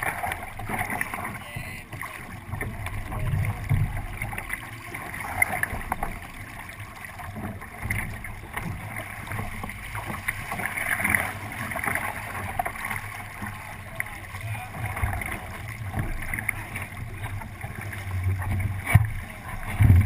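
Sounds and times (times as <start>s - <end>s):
boat knocks: 0.0s - 20.0s
water rushing along a hull: 0.0s - 20.0s.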